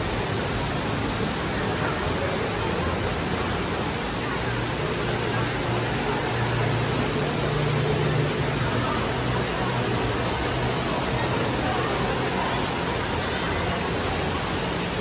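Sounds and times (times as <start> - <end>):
faint voices: 0.0 - 15.0
steady rushing noise: 0.0 - 15.0.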